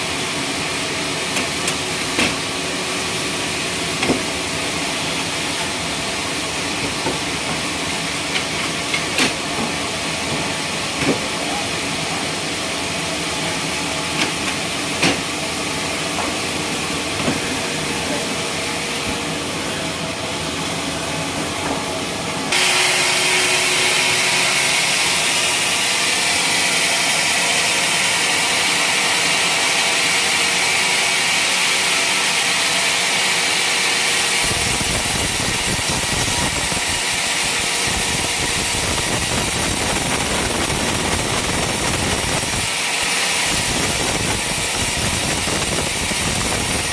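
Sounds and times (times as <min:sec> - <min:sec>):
wood-sawing machine hissing: 0:00.0 - 0:46.9.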